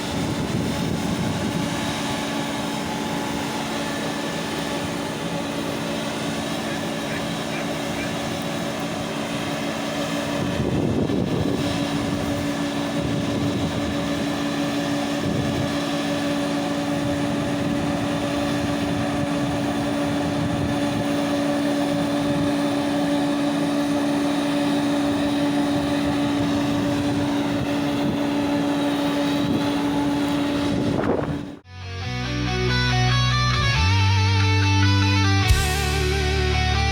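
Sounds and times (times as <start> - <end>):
diesel engine running under load: 0.0 - 31.7, 33.1 - 36.9.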